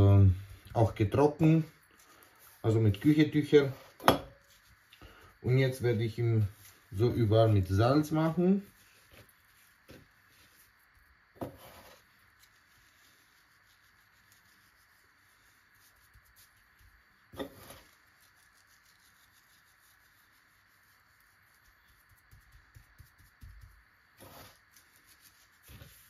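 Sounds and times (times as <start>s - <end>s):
hand rubbing salt into meat: 0.0s - 26.0s.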